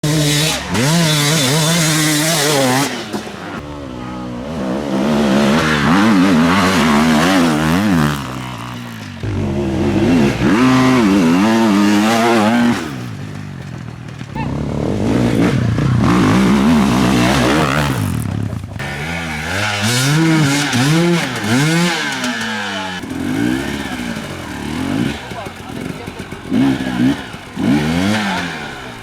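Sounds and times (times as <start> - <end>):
motorcycles riding by: 0.0 - 29.0.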